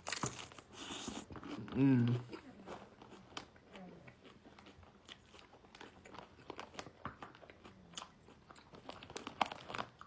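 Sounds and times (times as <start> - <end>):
chewing crunchy chips: 0.0 - 10.0.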